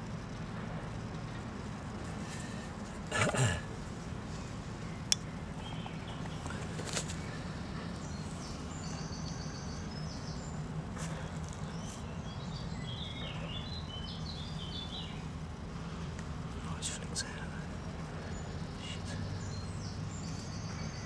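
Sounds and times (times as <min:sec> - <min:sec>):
low background hum: 0:00.0 - 0:21.0
small bird singing: 0:03.6 - 0:21.0.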